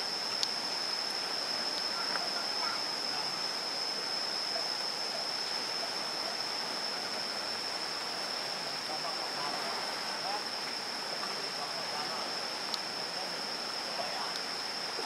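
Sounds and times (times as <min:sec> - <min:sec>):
high-pitched insect drone: 0:00.0 - 0:15.0
river water flowing: 0:00.0 - 0:15.0.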